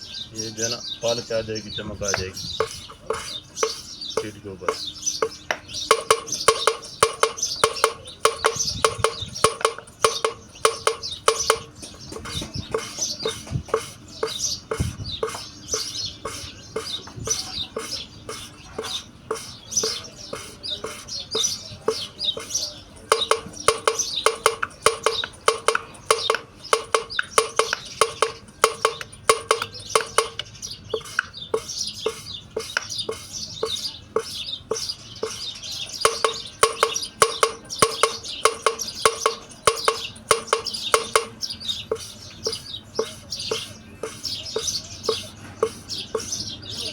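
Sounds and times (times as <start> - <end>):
rhythmic gritty scraping: 0.4 - 46.9.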